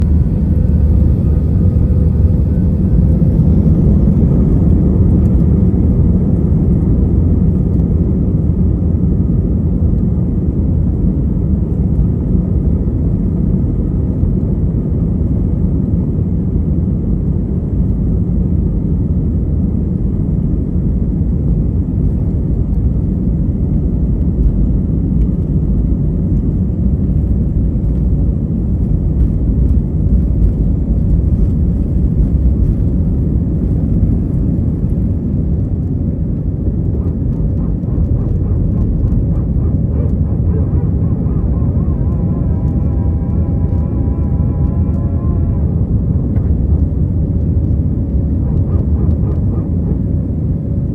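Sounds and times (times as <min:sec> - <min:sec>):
faint high engine whine: 0:00.0 - 0:50.9
jet engines rumbling in cabin: 0:00.0 - 0:50.9.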